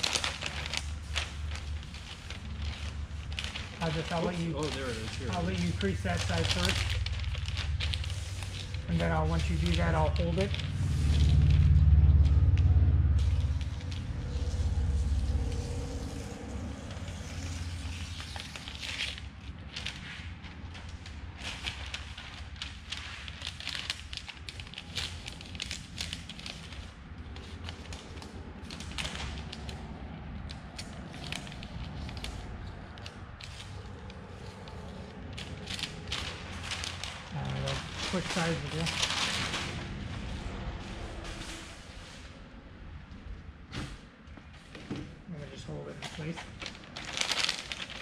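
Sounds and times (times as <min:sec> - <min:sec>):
low rumble: 0:00.0 - 0:22.7, 0:23.4 - 0:44.5
paper crackling and crinkling: 0:00.0 - 0:42.4, 0:45.4 - 0:48.0.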